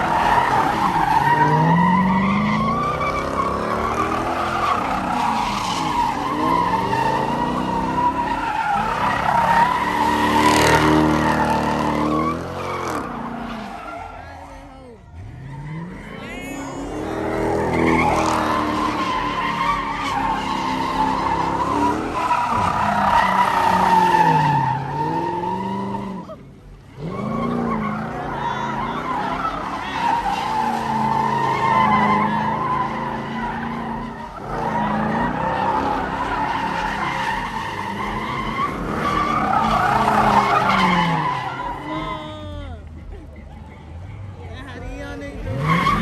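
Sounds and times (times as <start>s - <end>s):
tyres squealing: 0.0s - 44.6s, 45.3s - 46.0s
car engines revving: 0.0s - 46.0s.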